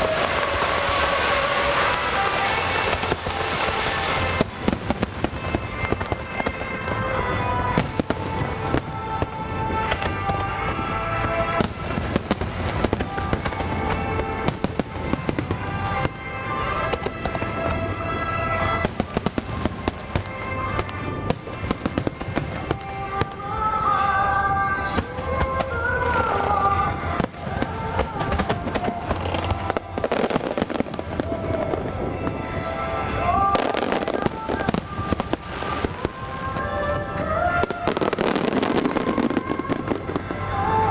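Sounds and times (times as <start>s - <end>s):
fireworks bursting and crackling: 0.0s - 40.9s
song playing: 0.0s - 40.9s.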